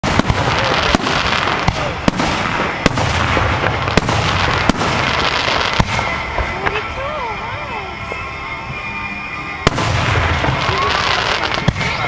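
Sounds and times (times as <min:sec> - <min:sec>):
fireworks bangs: 0:00.0 - 0:09.0, 0:09.6 - 0:12.0.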